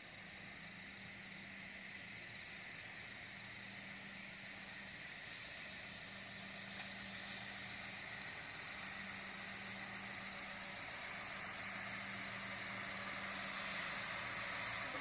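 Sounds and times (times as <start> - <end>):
passenger train approaching: 0.0 - 15.0.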